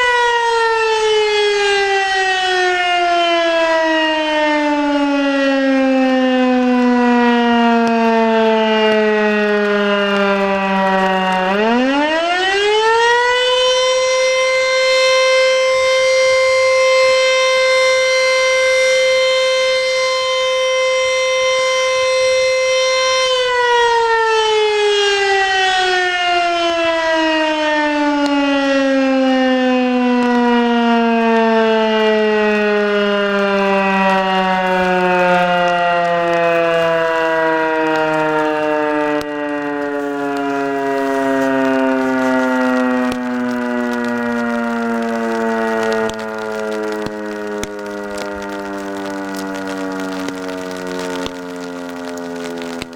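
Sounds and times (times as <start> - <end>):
electric motor siren wailing: 0.0 - 52.9.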